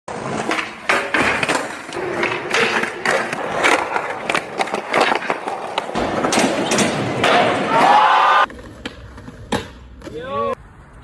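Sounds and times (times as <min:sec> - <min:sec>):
skateboard clacking on ground: 0:00.1 - 0:07.5, 0:08.4 - 0:10.6
skateboard rolling on pavement: 0:00.1 - 0:11.0.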